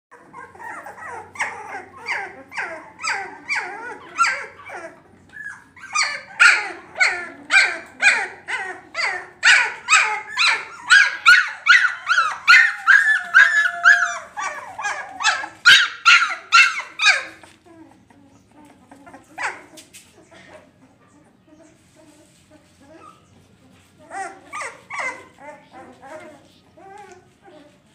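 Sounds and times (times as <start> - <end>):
puppies yelping and whining: 0.1 - 27.9.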